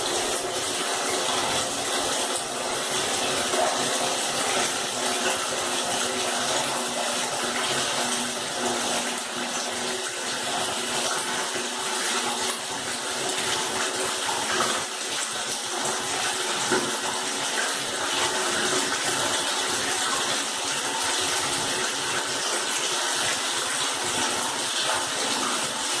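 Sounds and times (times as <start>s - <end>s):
water running from a tap: 0.0s - 26.0s.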